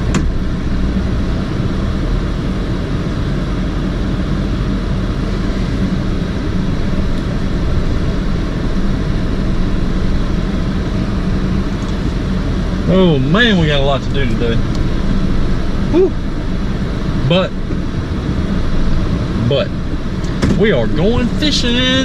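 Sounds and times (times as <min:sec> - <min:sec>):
car cabin engine and road noise: 0:00.0 - 0:22.0.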